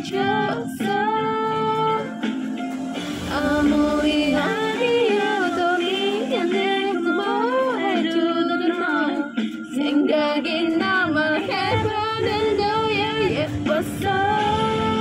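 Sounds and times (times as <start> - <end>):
woman singing: 0.0 - 2.3, 3.3 - 15.0
backing music: 0.0 - 15.0.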